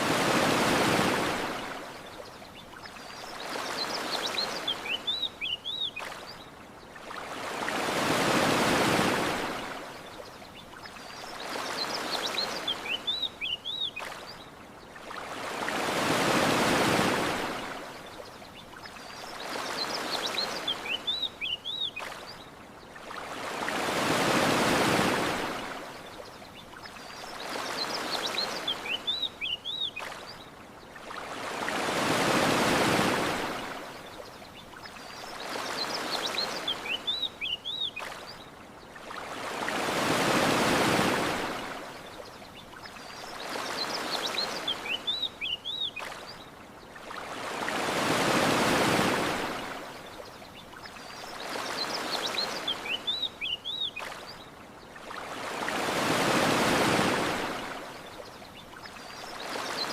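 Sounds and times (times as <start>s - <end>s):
ocean waves washing in: 0.0s - 59.9s
birds chirping: 0.3s - 59.9s.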